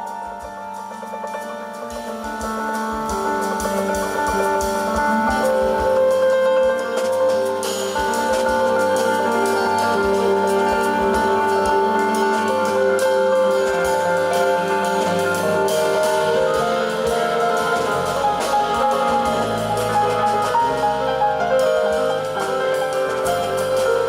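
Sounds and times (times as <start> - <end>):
jazz piano trio playing: 0.0 - 24.0.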